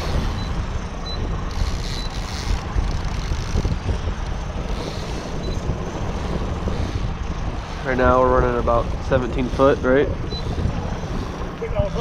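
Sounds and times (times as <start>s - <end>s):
boat motor noise: 0.0s - 12.0s
wind rumble: 0.0s - 12.0s.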